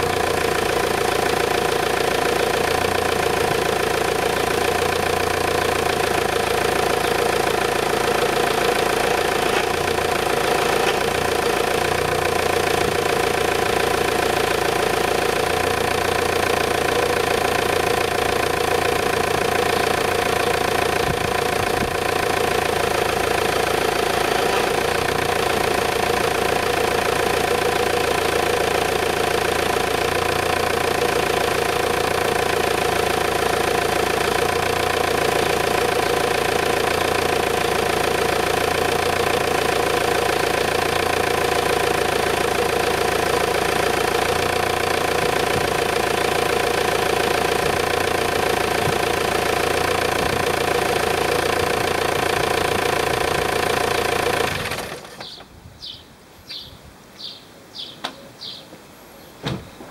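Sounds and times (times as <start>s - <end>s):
diesel engine idling: 0.0s - 55.2s.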